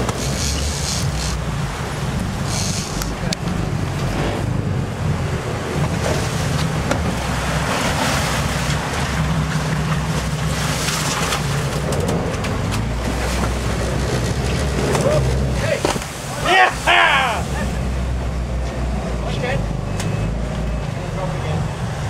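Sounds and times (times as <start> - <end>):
boat engines running: 0.0 - 22.0
churned water rushing and splashing: 0.0 - 22.0.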